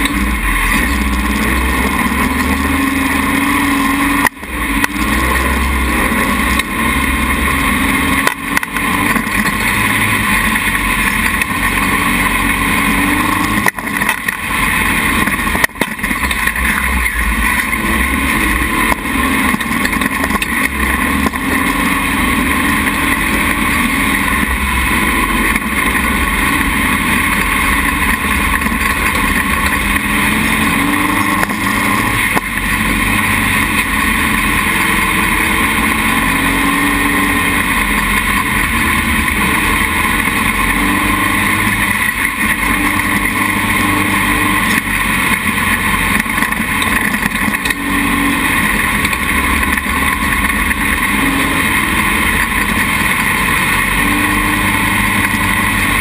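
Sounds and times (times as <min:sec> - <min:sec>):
dune buggy engine running: 0:00.0 - 0:56.0.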